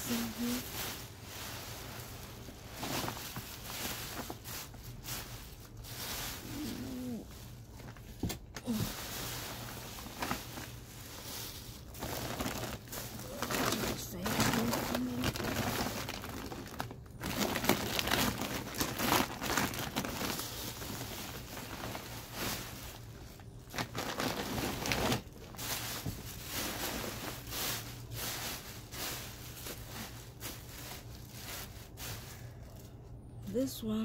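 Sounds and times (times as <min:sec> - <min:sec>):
plastic bags crinkling: 0:00.0 - 0:33.3.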